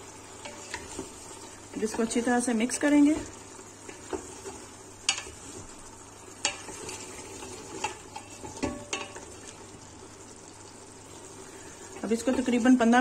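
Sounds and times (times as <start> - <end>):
meat frying and sizzling: 0.0 - 13.0.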